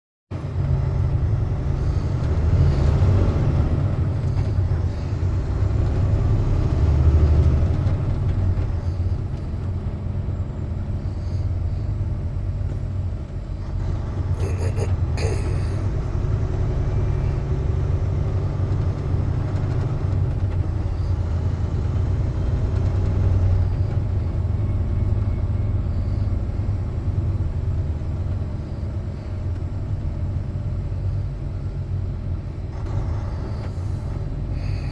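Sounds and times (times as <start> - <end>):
road noise: 0.3 - 34.9
truck engine rumble: 0.3 - 34.9.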